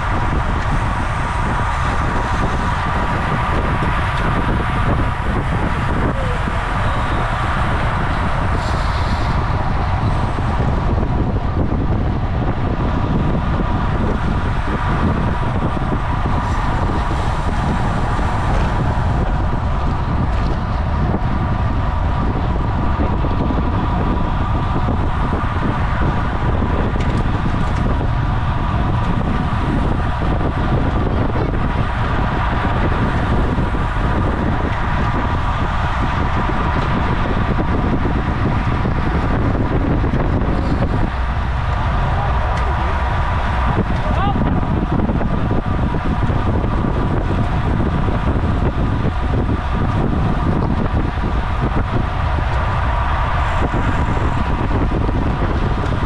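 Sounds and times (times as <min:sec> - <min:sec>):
bicycle tyre noise: 0:00.0 - 0:56.0
wind rush on microphone: 0:00.0 - 0:56.0.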